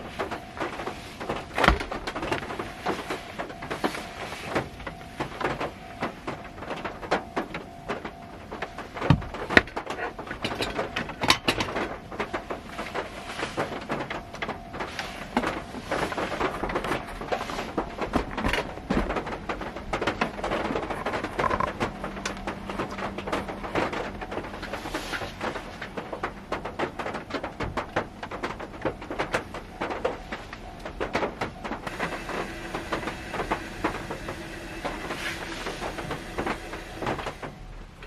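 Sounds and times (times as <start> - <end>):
rain tapping on car roof: 0.0 - 38.0.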